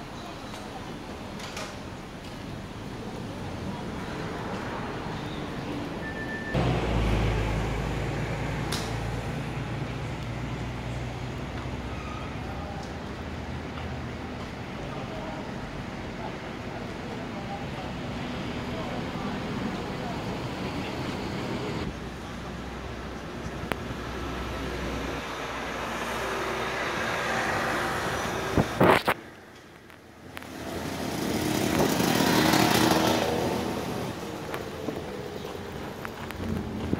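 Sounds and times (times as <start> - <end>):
engine low rumble: 0.0 - 32.0.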